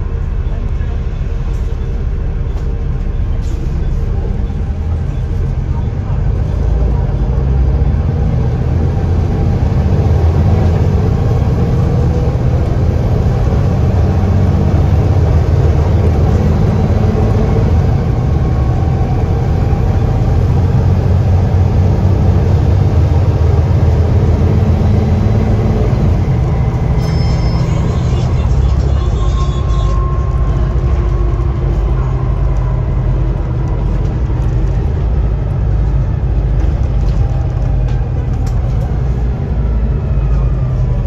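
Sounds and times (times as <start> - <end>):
bus engine drone: 0.0 - 41.0
road noise: 0.0 - 41.0.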